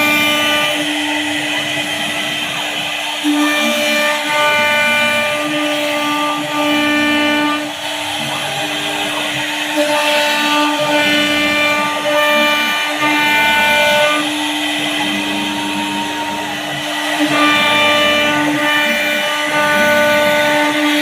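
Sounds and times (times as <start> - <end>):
hiss of cutting: 0.0 - 21.0
router spindle whine: 0.0 - 21.0.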